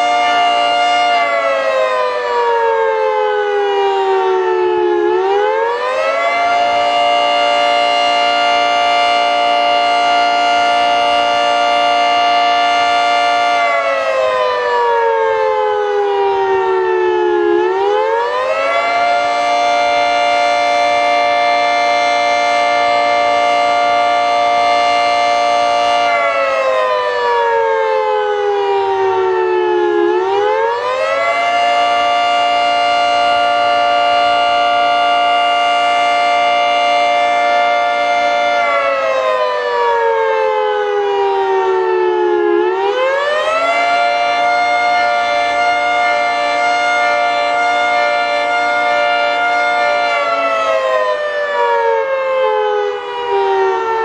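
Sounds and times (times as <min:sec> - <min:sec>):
warning siren rising and falling: 0:00.0 - 0:54.0.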